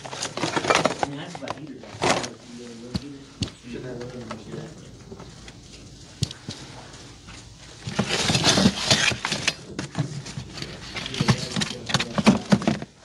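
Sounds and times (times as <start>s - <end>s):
rummaging through boxes and parts: 0.0s - 13.0s.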